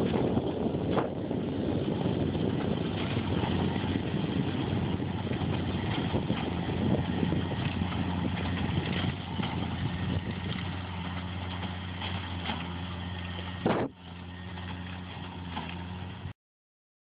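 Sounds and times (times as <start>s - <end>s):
tractor diesel engine running: 0.0s - 16.3s.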